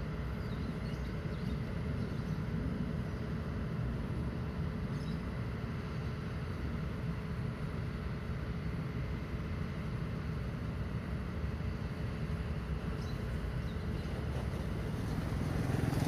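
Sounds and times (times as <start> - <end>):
faint constant hum: 0.0 - 16.0
low outdoor rumble: 0.0 - 16.0.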